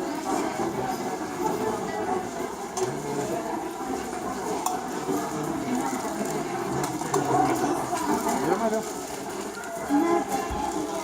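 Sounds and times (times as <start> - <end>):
background chatter: 0.0 - 11.0.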